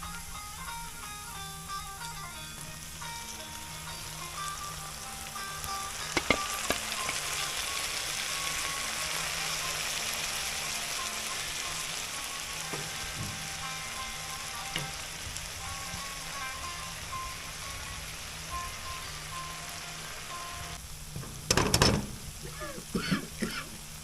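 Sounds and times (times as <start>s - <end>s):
faint background music: 0.0s - 20.8s
food sizzling in a pan: 0.0s - 24.0s.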